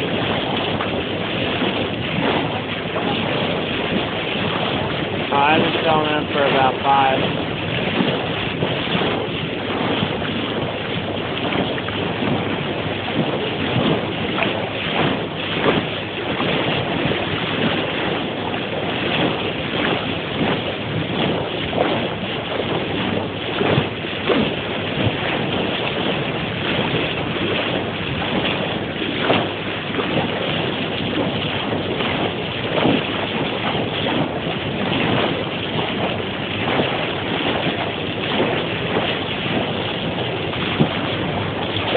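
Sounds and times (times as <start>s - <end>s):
water rushing from bow wave: 0.0s - 41.9s
wind buffeting microphone: 0.0s - 41.9s.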